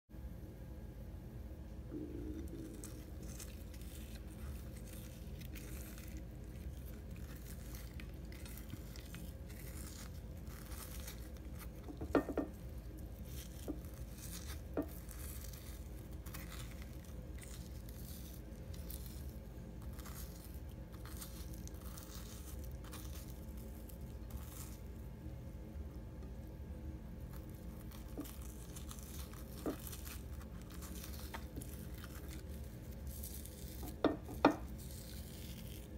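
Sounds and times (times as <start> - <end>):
steady low hum: 0.1 - 35.9
frozen bacon tearing: 2.2 - 25.3, 27.1 - 35.9.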